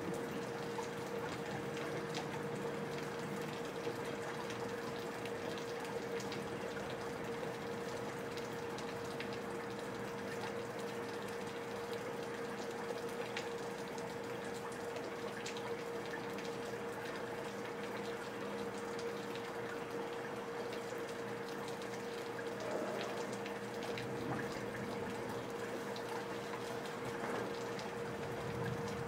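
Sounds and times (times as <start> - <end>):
faint steady hum: 0.0 - 29.0
steady rain: 0.0 - 29.0
water dripping from gutters: 0.0 - 29.0.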